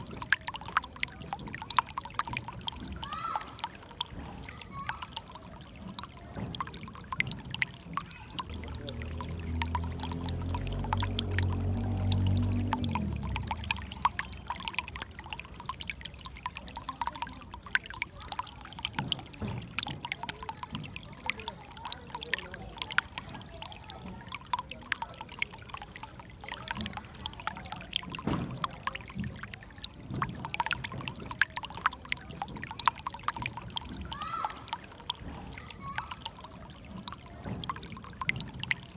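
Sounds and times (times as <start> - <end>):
shallow water splashing over stones: 0.0 - 38.9.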